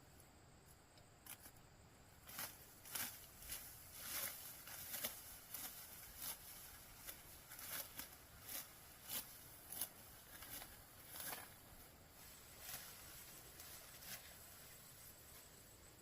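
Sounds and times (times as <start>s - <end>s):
sickle swishing through stalks: 2.2s - 15.6s.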